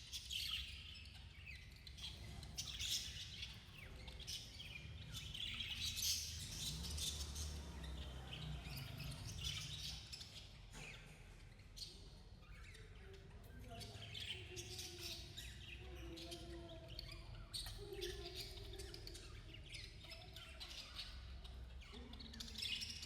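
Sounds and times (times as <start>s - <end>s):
budgies chirping: 0.0s - 23.0s.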